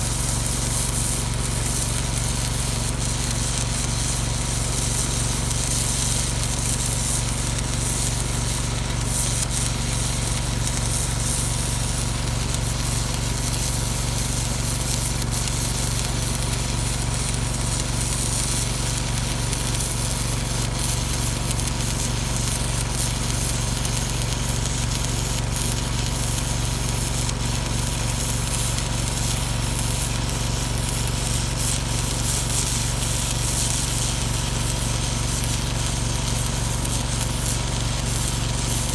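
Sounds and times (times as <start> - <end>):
welding arc crackling hiss: 0.0 - 38.9.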